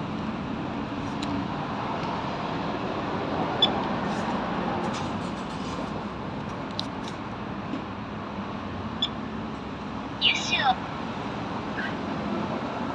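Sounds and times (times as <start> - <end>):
road traffic noise: 0.0 - 12.9.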